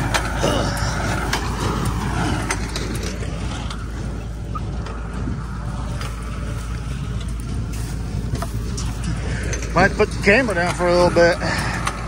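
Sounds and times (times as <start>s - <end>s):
baler mechanism clanking: 0.0s - 12.0s
tractor engine running: 0.0s - 12.0s.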